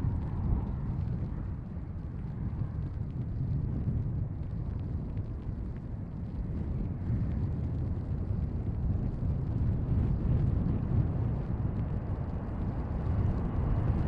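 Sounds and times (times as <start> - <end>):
airliner engine noise: 0.0 - 14.0
wind buffeting microphone: 0.0 - 14.0.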